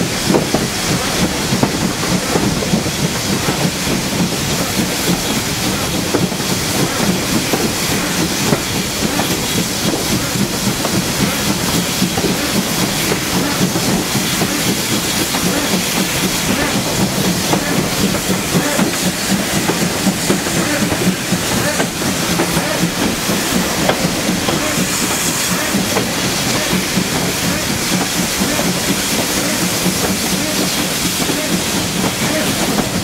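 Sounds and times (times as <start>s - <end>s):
steam hissing: 0.0s - 33.0s
train wheels and running gear: 0.0s - 33.0s.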